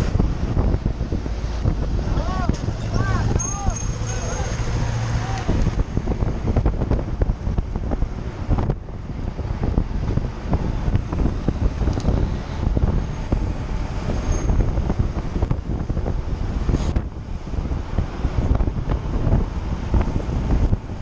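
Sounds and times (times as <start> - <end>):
road rumble: 0.0 - 21.0
wind buffeting microphone: 0.0 - 21.0.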